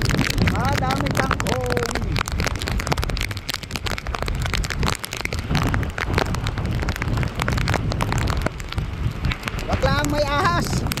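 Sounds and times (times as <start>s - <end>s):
dense irregular crackling: 0.0s - 11.0s
wind buffeting microphone: 0.0s - 11.0s.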